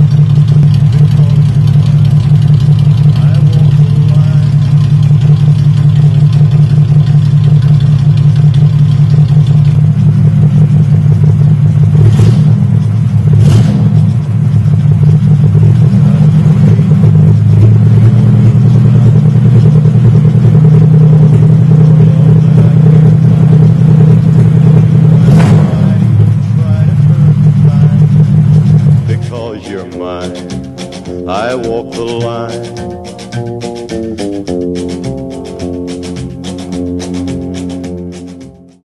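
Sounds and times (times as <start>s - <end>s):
car exhaust droning: 0.0s - 38.7s.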